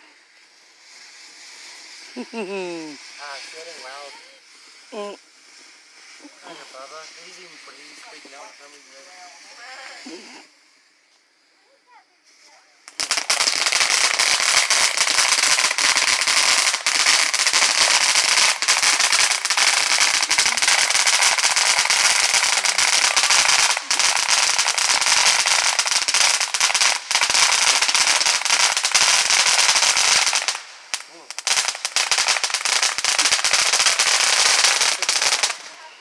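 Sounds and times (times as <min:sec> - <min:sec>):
firework crackling and hissing: 0:00.0 - 0:36.0.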